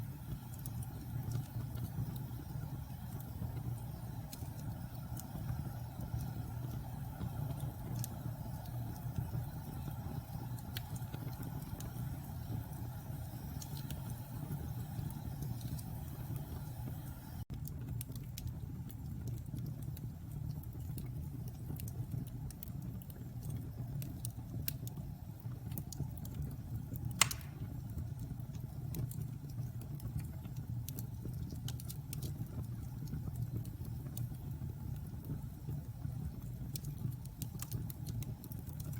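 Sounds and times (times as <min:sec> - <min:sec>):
fire flames rumbling: 0:00.0 - 0:38.9
wood crackling and popping: 0:00.3 - 0:16.7, 0:17.5 - 0:38.9.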